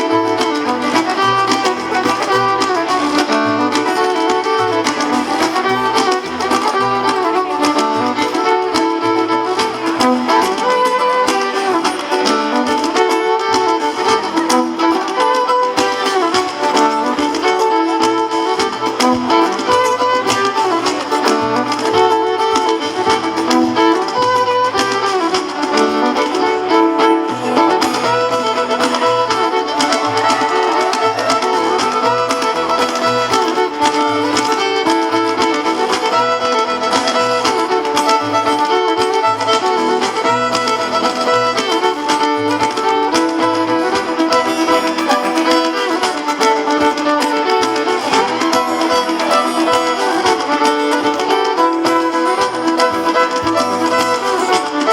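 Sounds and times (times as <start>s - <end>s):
fiddle melody: 0.0s - 54.9s
plucked strings: 0.0s - 54.9s.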